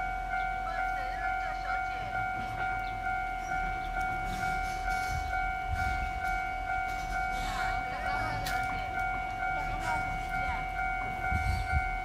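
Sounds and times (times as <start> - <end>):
level crossing bell dinging: 0.0 - 12.0.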